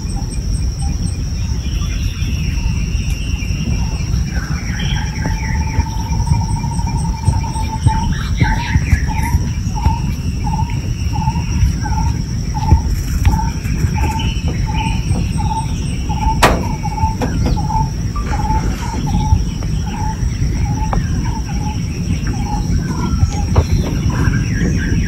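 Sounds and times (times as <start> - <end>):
birds chirping: 0.0 - 25.0
constant low rumble: 0.0 - 25.0
insects droning: 0.0 - 25.0.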